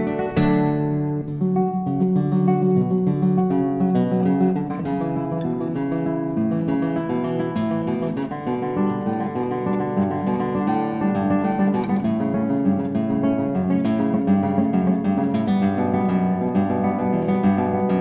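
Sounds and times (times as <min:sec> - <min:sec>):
instrumental guitar music: 0:00.0 - 0:18.0.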